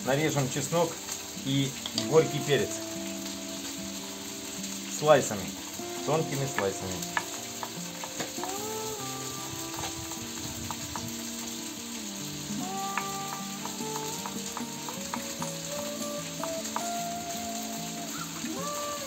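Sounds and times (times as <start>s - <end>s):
calm background music: 0.0s - 19.0s
chicken sizzling in oil: 0.0s - 19.0s.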